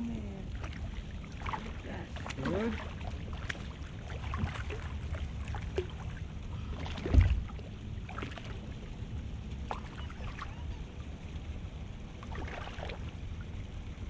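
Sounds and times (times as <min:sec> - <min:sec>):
fish splashing in water: 0:00.0 - 0:09.0, 0:09.6 - 0:10.8, 0:12.2 - 0:13.4
low rumble: 0:00.0 - 0:14.0.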